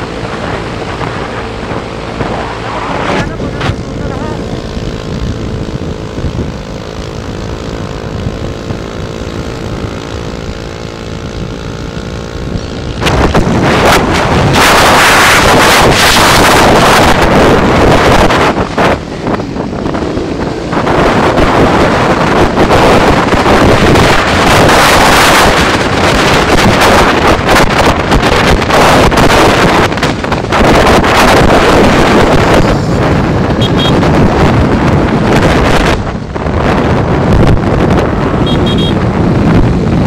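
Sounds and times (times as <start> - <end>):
motorbike engine cruising: 0.0 - 40.0
road noise: 0.0 - 40.0
wind buffeting microphone: 0.0 - 40.0.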